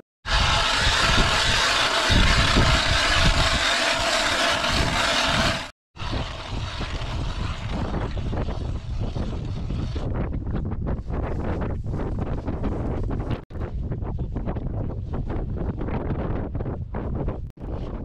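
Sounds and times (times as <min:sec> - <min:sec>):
strong wind on microphone: 0:00.2 - 0:18.0.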